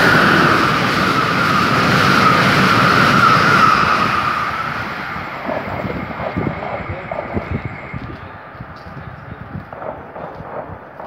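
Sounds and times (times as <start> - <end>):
high steady train whine: 0.0 - 11.0
train wheels rushing on rail: 0.0 - 11.0.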